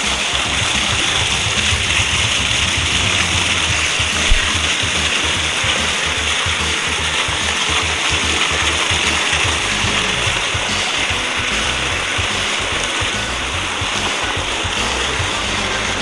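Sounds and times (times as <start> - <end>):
background music: 0.0 - 16.0
waterfall rushing: 0.0 - 16.0.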